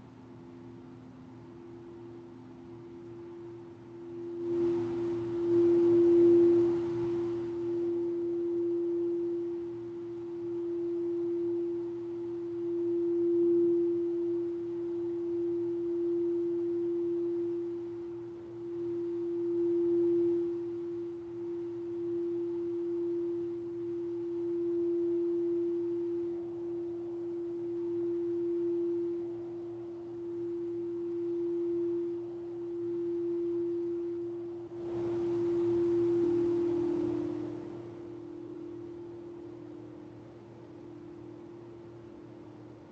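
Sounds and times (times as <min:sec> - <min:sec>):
lower singing bowl tone: 0:00.0 - 0:42.9
singing bowl tone: 0:00.0 - 0:42.9.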